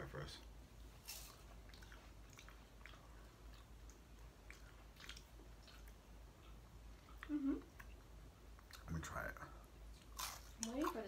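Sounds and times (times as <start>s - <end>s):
chewing crunchy spring roll: 1.0s - 9.0s, 9.9s - 11.0s.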